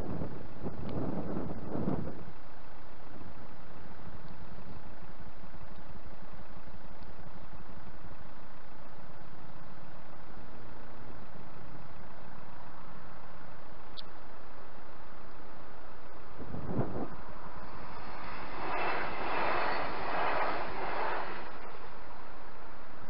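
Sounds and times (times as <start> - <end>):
wind noise on microphone: 0.0 - 23.0.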